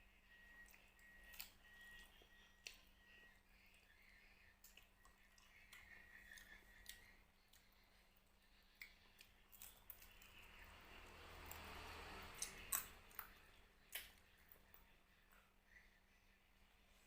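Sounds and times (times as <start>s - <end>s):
person chewing and eating fish: 0.3s - 15.4s.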